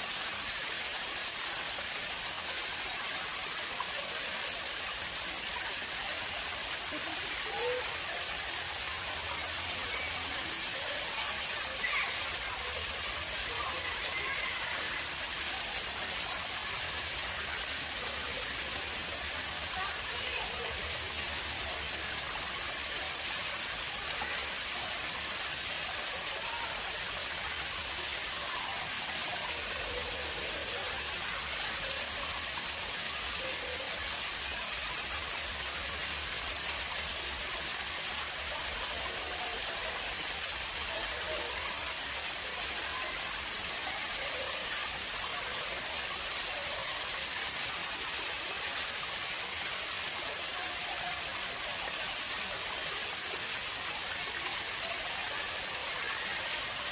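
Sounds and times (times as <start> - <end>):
water flowing into pond: 0.0 - 56.9.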